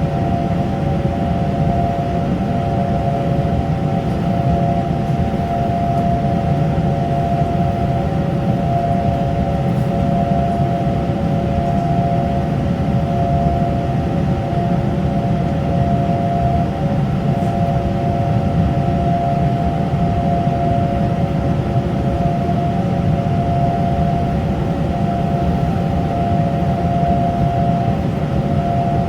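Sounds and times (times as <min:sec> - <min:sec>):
high tonal hum: 0:00.0 - 0:29.0.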